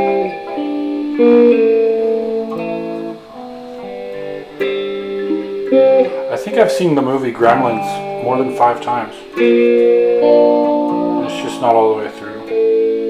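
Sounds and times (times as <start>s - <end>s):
unplugged electric guitar chords: 0.0s - 13.0s.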